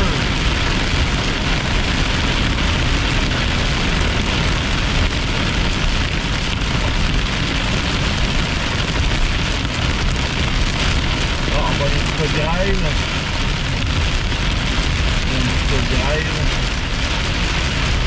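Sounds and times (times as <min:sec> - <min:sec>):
heavy rain drumming on a car: 0:00.0 - 0:18.0
road and engine rumble: 0:00.0 - 0:18.0.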